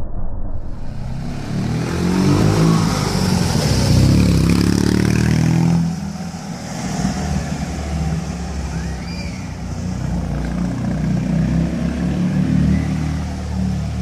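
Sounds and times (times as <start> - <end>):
car engine accelerating past: 1.0 - 14.0.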